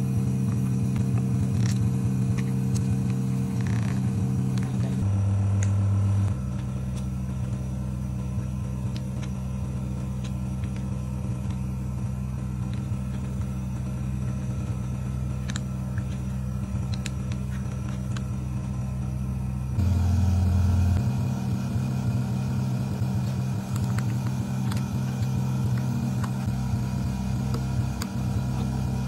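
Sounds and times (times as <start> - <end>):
vacuum pump motor hum: 0.0 - 29.0.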